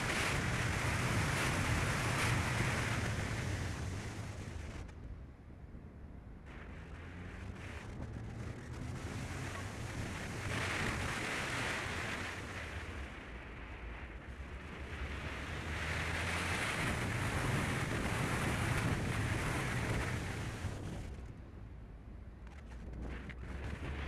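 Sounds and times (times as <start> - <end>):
wind rushing over microphone: 0.0 - 21.9, 22.7 - 24.0
engine and tyre rumble: 0.0 - 24.0.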